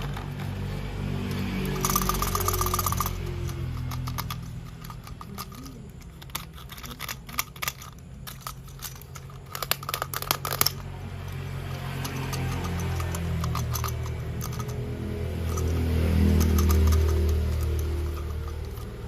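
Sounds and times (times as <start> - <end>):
plastic toy parts clicking: 0.0 - 19.0.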